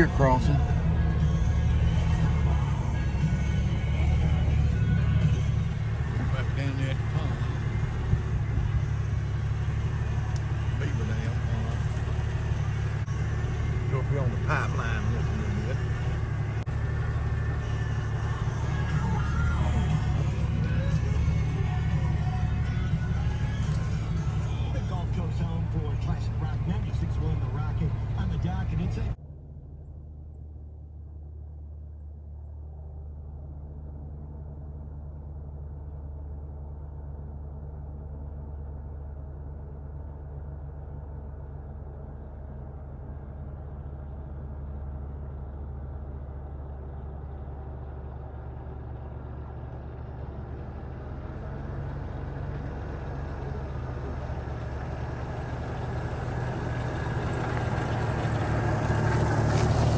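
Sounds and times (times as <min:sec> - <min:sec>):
car engine driving slowly: 0:00.0 - 0:59.9.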